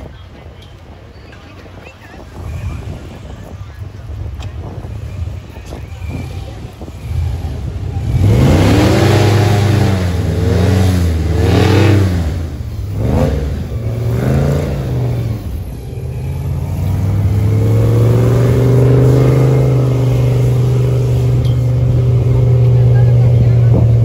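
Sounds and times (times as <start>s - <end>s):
airboat engine revving: 4.6s - 24.0s.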